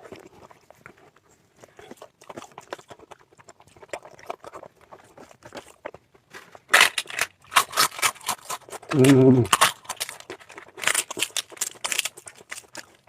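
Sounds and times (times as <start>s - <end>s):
person chewing with mouth smacks: 0.0s - 13.0s.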